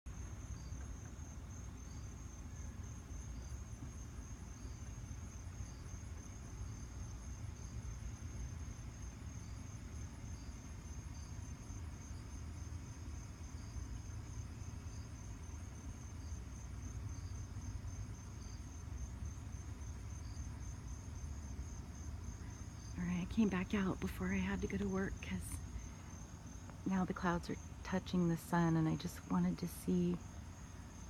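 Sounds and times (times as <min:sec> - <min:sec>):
crickets trilling: 0:00.1 - 0:31.0
insect chirps: 0:00.1 - 0:31.0
low steady rumble: 0:00.1 - 0:31.0.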